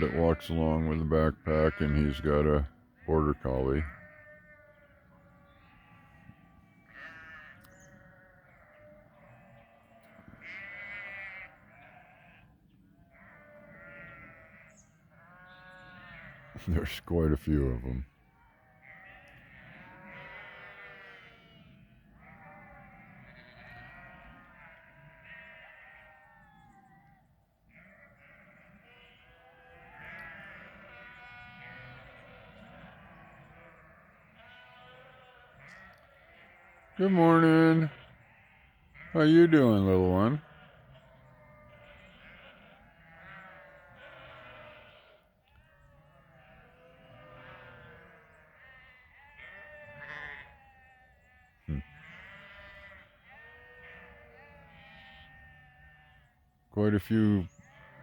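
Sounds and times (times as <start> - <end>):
sheep bleating: 0.0 - 58.0.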